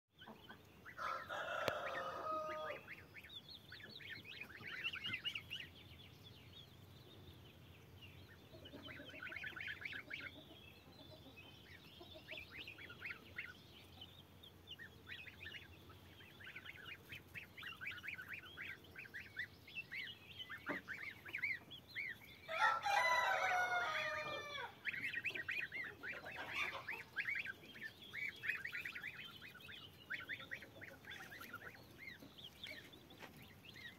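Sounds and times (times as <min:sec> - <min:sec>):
goslings and chicks peeping: 0:00.2 - 0:33.9.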